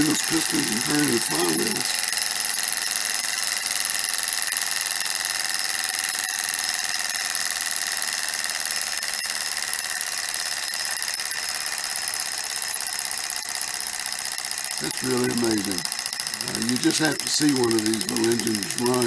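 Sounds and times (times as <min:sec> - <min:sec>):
stirling engine mechanical buzz: 0:00.0 - 0:19.0.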